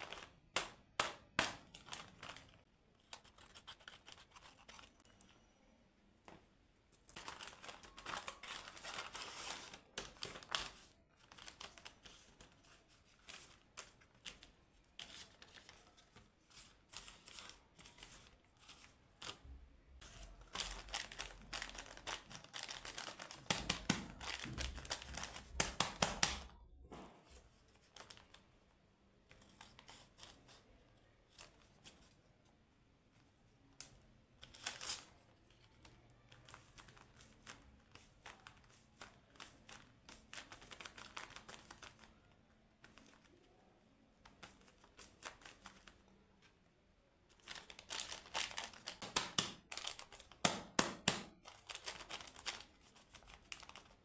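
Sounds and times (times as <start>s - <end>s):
paper packets rustling: 0.0s - 5.4s, 7.0s - 26.5s, 27.3s - 28.6s, 33.8s - 43.5s, 44.2s - 46.2s, 47.3s - 54.0s.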